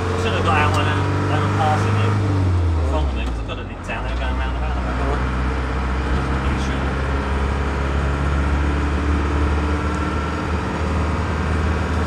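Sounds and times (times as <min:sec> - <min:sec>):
minibus engine drone: 0:00.0 - 0:12.0
road noise: 0:00.0 - 0:12.0.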